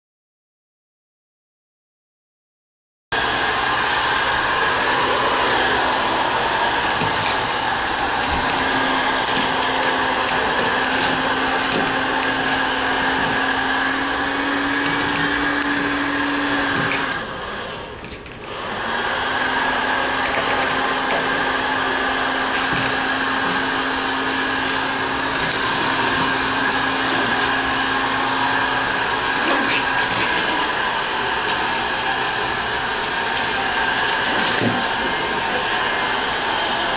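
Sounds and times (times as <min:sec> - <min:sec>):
dryer blowing with hum: 0:03.2 - 0:36.9.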